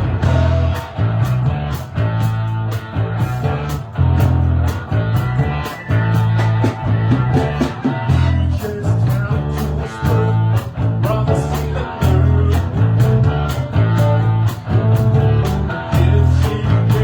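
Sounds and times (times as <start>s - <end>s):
guitar: 0.0s - 17.0s
heavy bass line: 0.0s - 17.0s
steady drum beat: 0.0s - 17.0s.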